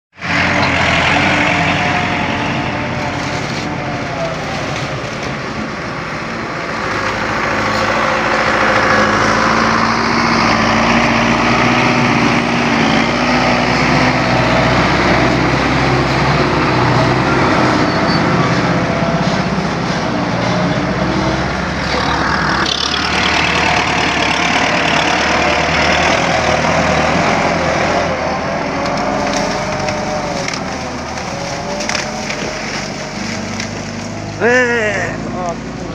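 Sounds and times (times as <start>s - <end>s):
tractor engine under load: 0.2s - 35.9s.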